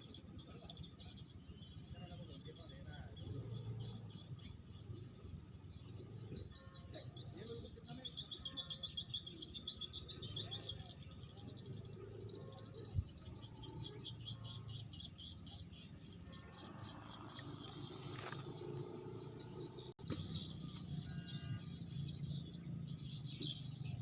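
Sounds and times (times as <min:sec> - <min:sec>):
insects chirping in trills: 0:00.0 - 0:24.0.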